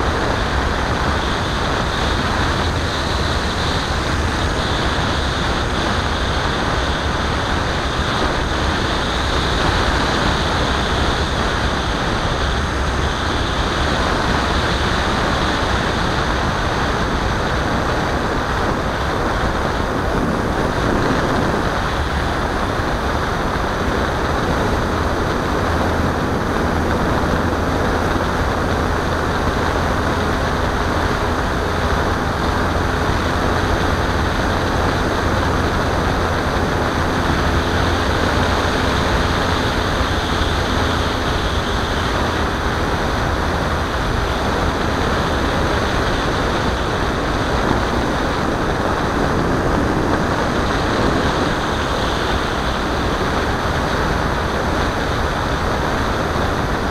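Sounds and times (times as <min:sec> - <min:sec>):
motor and propeller hum: 0:00.0 - 0:56.9.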